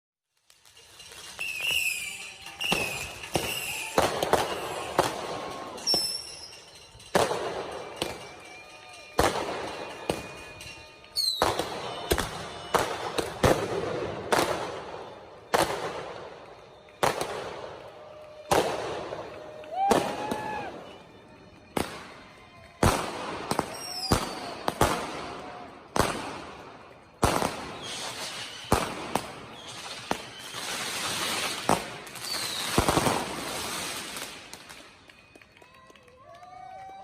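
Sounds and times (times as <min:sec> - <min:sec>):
fireworks bangs: 0:00.4 - 0:35.4
fireworks shrill whistling: 0:00.4 - 0:35.9.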